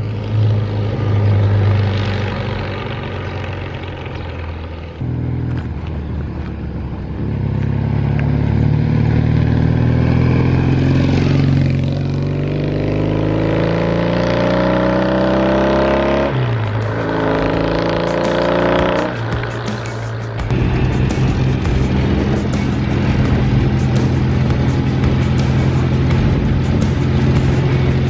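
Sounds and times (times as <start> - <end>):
motorcycle accelerating: 0.0 - 28.0.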